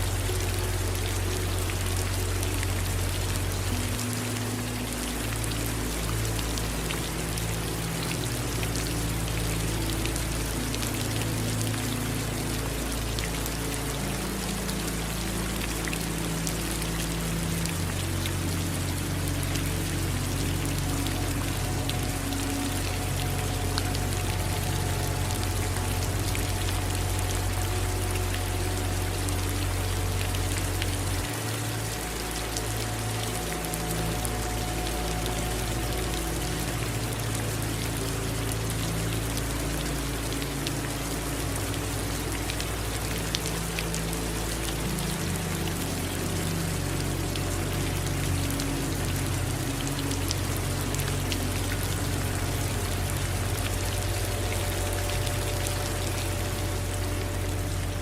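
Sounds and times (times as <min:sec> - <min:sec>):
continuous low rumble: 0:00.0 - 0:58.0
raindrops ticking: 0:00.0 - 0:58.0
steady rain falling: 0:00.0 - 0:58.0.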